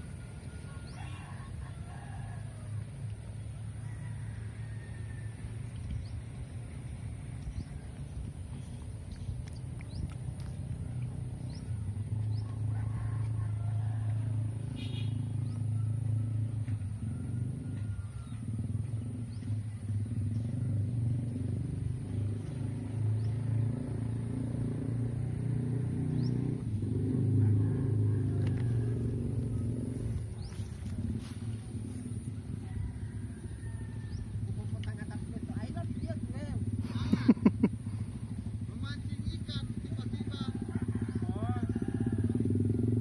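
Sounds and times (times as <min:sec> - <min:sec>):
motor engine running: 0:00.0 - 0:43.0.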